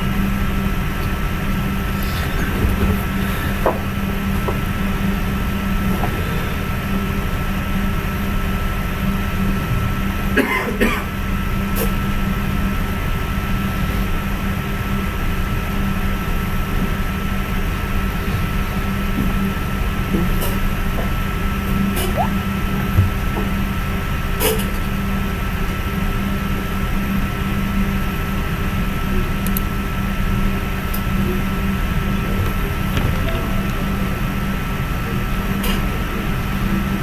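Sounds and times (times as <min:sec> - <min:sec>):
thin constant whine: 0:00.0 - 0:37.0.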